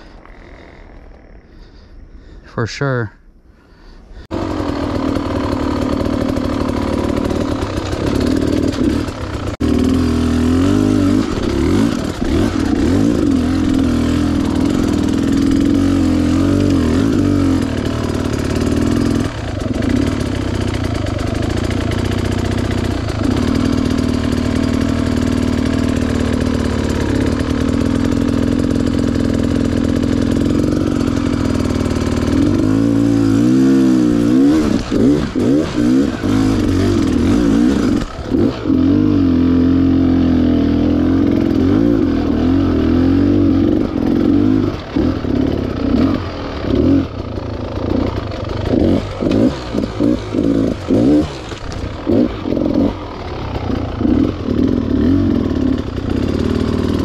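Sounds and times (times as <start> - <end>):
dirt bike engine revving: 4.2 - 57.0.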